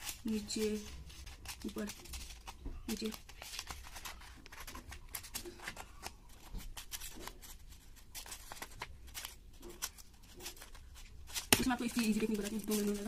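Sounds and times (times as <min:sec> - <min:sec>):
paper rustling: 0:00.0 - 0:13.0
scissors snipping paper: 0:00.0 - 0:13.0.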